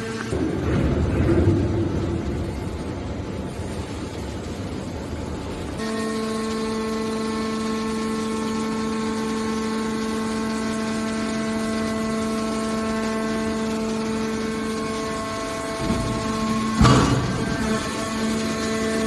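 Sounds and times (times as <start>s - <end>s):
hydraulic pump whining: 0.0s - 19.0s.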